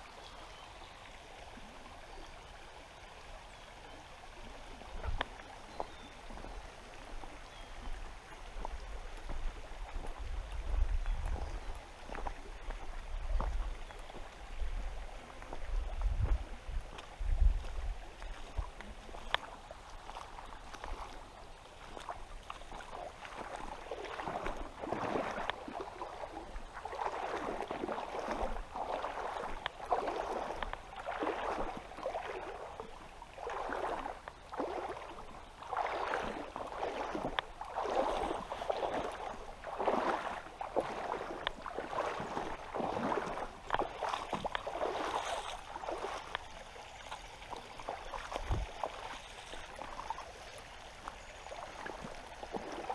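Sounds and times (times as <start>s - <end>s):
wading through shallow water: 0.0s - 52.9s.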